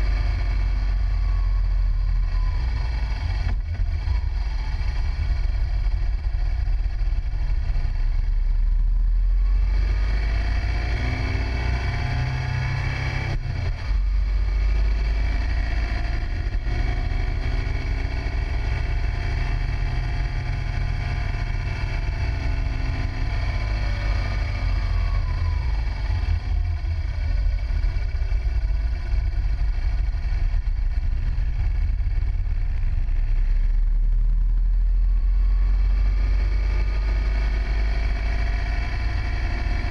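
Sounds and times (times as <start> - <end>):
heavy low rumble: 0.0 - 39.9
motorcycle engine accelerating: 0.0 - 39.9.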